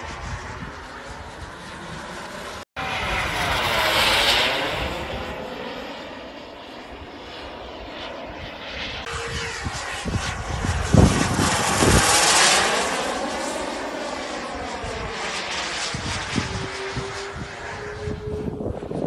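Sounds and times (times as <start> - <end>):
model jet turbine whine: 0.0 - 19.0.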